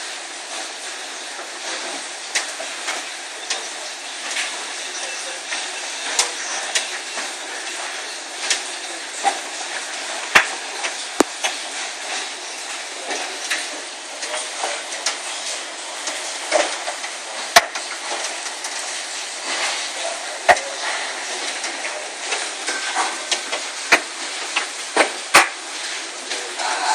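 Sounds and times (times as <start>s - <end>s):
heavy rain hiss: 0.0s - 26.9s
hailstones striking hard surfaces: 1.4s - 26.9s.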